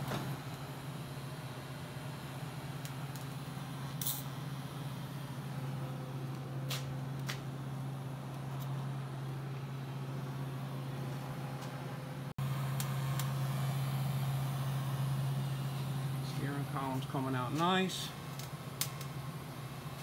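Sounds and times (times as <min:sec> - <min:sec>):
welder electrical hum: 0:00.0 - 0:20.0.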